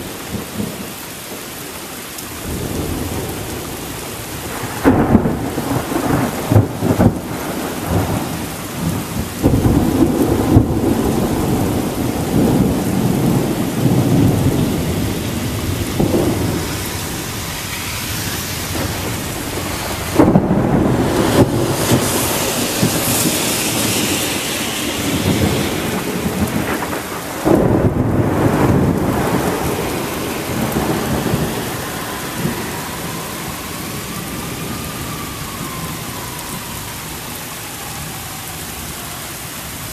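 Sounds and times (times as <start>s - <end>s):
rain falling: 0.0s - 39.9s
thunder rumbling: 2.3s - 39.9s.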